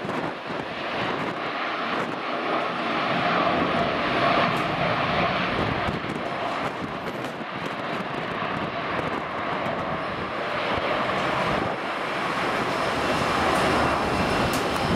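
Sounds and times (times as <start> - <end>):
jet engines rushing: 0.0 - 14.9.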